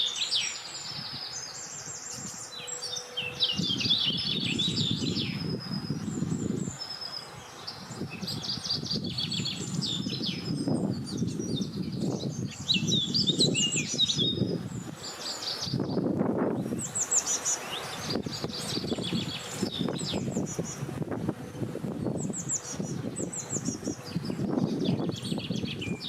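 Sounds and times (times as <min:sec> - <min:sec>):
songbirds chirping and trilling: 0:00.0 - 0:26.0
wind gusting: 0:00.6 - 0:26.0.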